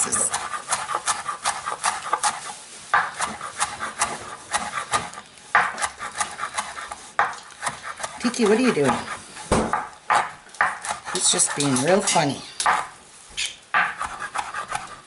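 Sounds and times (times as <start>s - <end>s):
knife chopping herbs on wooden board: 0.0s - 12.9s, 13.8s - 15.0s.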